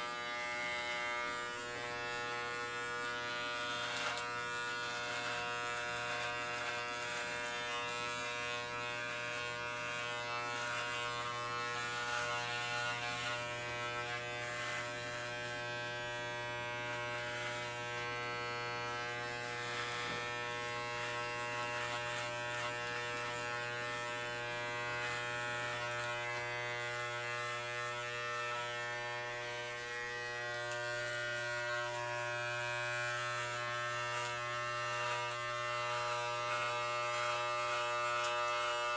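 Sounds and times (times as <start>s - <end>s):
electric clippers buzzing: 0.0s - 38.9s.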